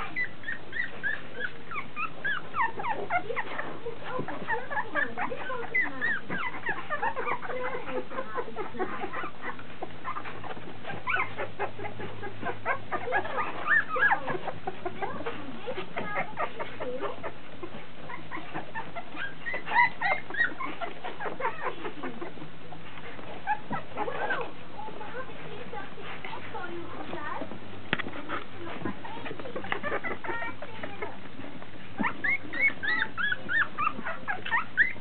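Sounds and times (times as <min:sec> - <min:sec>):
puppies squealing: 0:00.0 - 0:27.4, 0:28.2 - 0:35.0
puppies squeaking and whimpering: 0:00.0 - 0:35.0.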